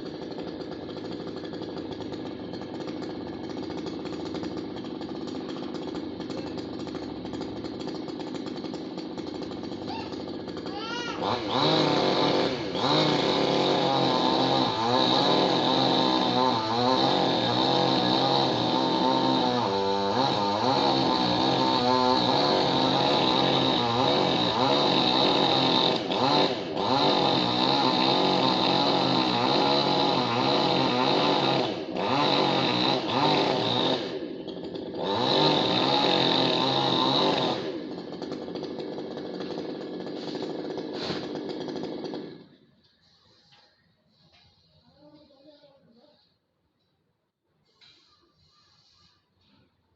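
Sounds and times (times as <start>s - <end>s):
chainsaw cutting wood: 0.0s - 44.4s.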